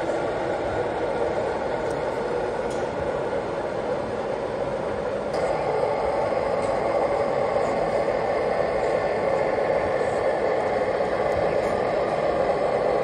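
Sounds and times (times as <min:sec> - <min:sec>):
busy exhibition hall noise: 0:00.0 - 0:13.0.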